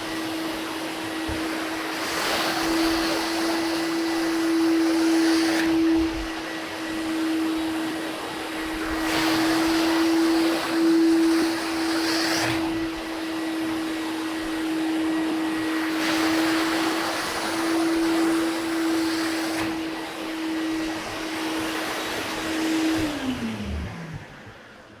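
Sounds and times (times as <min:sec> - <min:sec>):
vacuum motor running: 0:00.0 - 0:25.0.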